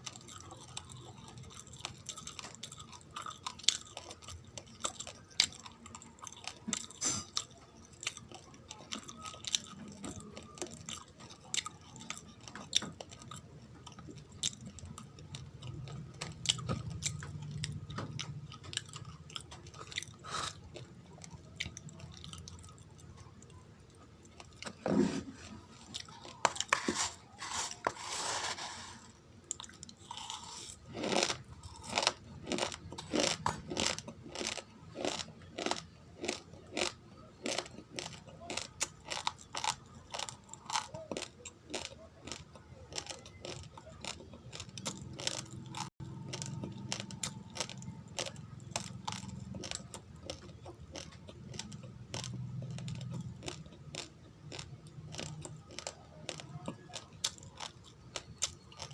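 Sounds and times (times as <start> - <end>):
chewing raw rice crunches: 0.0 - 24.8, 25.7 - 58.9.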